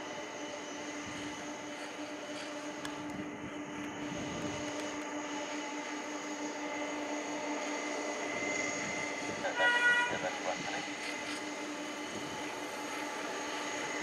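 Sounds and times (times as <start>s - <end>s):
broad rush of noise: 0.0s - 14.0s
jet engines whining: 0.0s - 14.0s.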